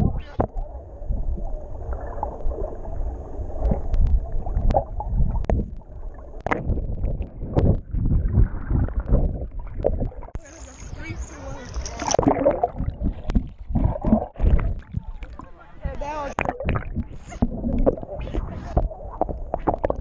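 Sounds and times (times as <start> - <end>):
muffled underwater water churn: 0.0 - 20.0.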